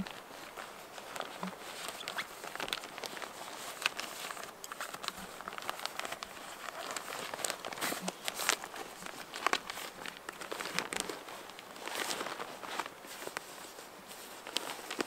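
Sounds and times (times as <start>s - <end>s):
synthetic fabric rustling and crinkling: 0.0s - 15.0s.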